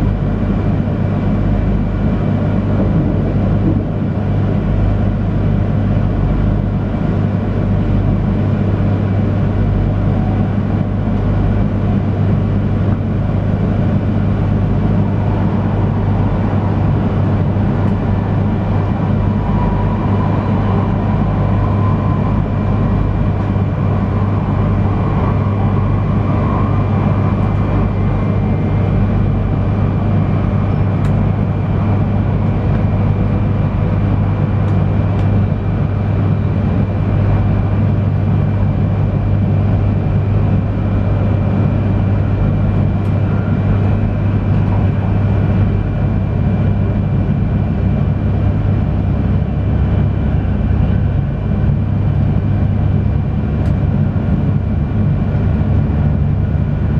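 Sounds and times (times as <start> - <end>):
train cabin deep rumble: 0.0 - 56.9
high-pitched whine: 8.4 - 38.2, 38.8 - 56.9.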